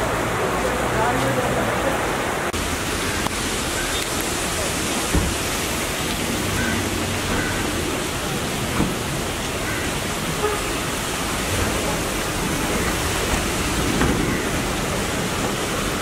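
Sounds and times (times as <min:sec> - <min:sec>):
rain rushing: 0:00.0 - 0:16.0.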